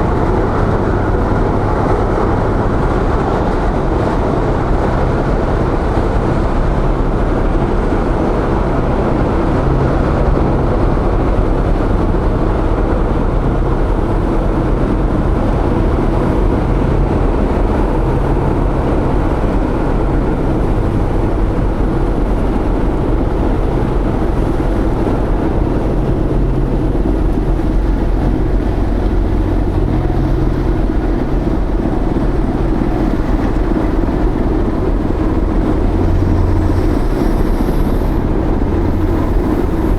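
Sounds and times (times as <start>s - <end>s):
ship engines rumbling: 0.0s - 39.9s
wind noise on microphone: 0.0s - 39.9s.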